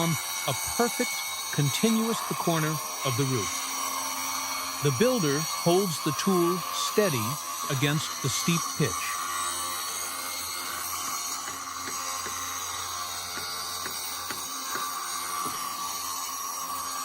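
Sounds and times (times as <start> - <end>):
circular saw cutting wood: 0.0 - 17.0.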